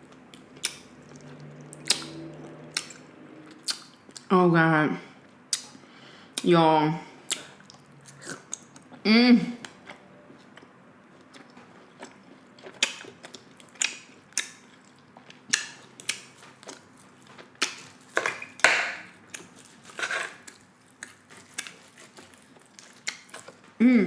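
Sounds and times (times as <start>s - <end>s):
close chewing with mouth clicks: 0.0s - 4.3s, 7.3s - 9.0s, 9.6s - 23.8s.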